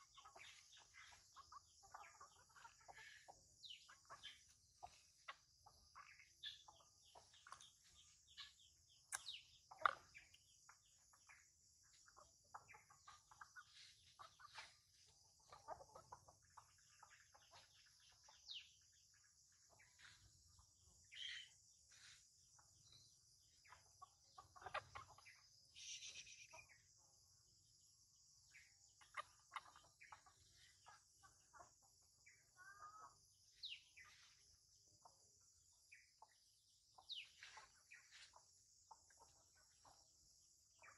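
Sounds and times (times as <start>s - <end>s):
faint chickens clucking: 0.0s - 40.9s.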